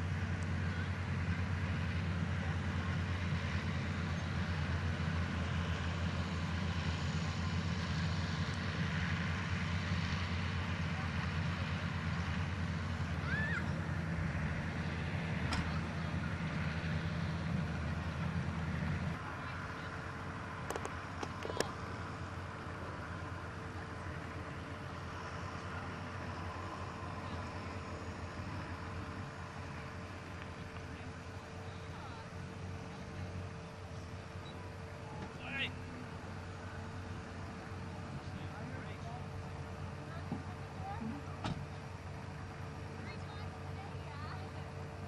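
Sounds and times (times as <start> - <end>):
tractor engine rumbling: 0.0 - 45.0.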